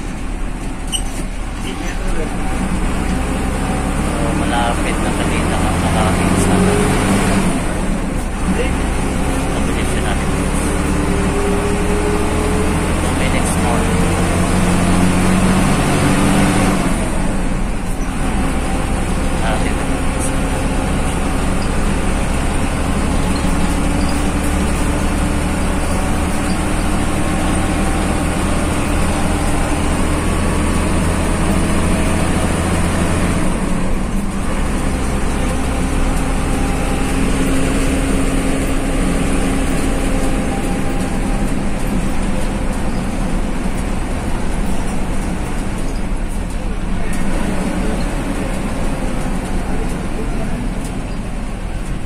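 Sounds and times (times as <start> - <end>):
bus engine hum: 0.0 - 52.0
road noise rumble: 0.0 - 52.0.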